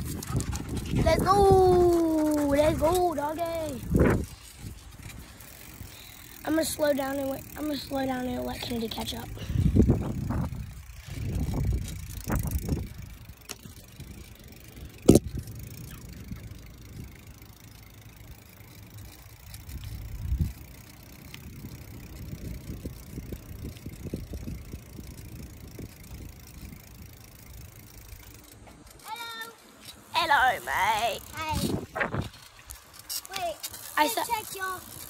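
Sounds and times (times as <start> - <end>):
wind buffeting microphone: 0.0 - 29.4, 30.3 - 35.0
bicycle tyres on asphalt: 0.0 - 35.0.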